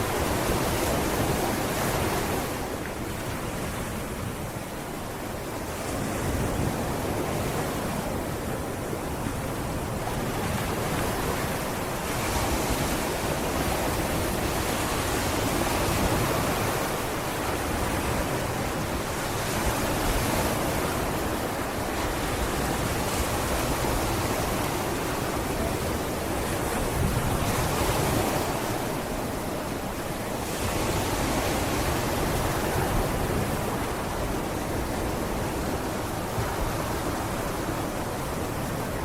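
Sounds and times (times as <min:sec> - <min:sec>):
sea waves washing onto beach: 0:00.0 - 0:39.0.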